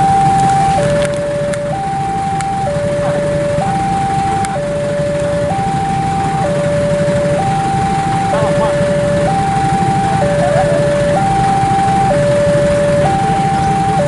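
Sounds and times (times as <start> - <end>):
two-tone level crossing alarm: 0.0 - 14.0.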